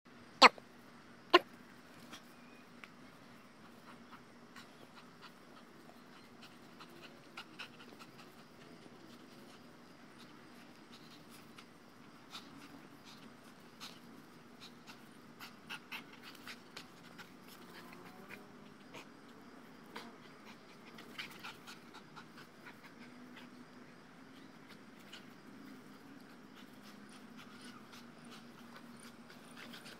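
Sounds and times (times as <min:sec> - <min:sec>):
dog panting: 0:03.4 - 0:29.9.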